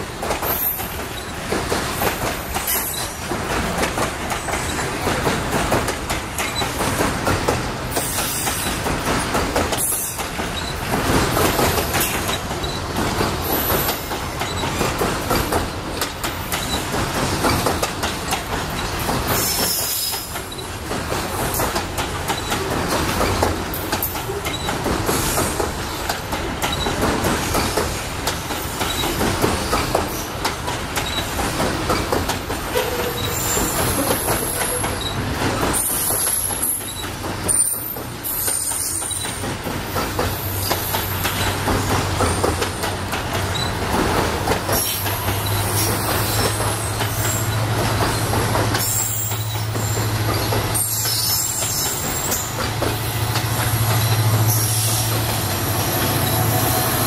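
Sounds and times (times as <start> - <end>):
train wheels rumbling and rattling: 0.0 - 57.0.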